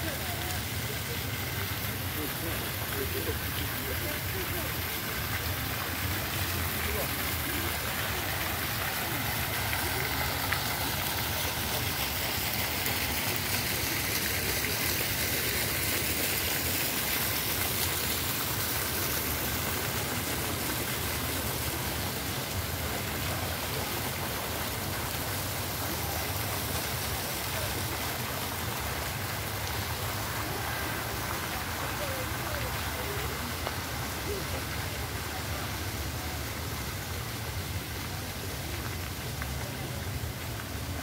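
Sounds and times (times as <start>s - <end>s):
fountain splashing into basin: 0.0s - 41.0s.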